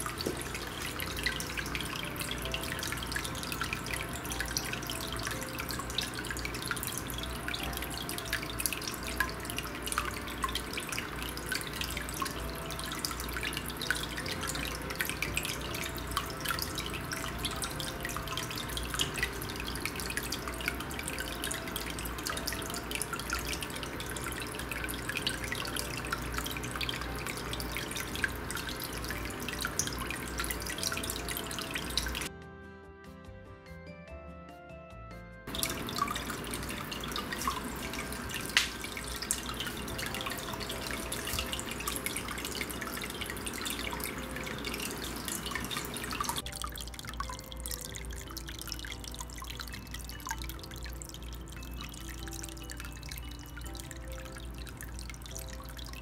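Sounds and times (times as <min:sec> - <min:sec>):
small waterfall splashing over stones: 0:00.0 - 0:32.3, 0:35.5 - 0:56.0
water dripping: 0:00.0 - 0:32.3, 0:35.5 - 0:56.0
soft background music: 0:00.0 - 0:56.0.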